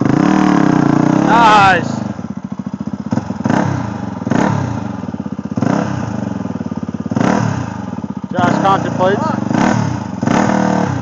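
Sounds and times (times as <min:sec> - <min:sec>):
dirt bike engine idling: 0:00.0 - 0:11.0.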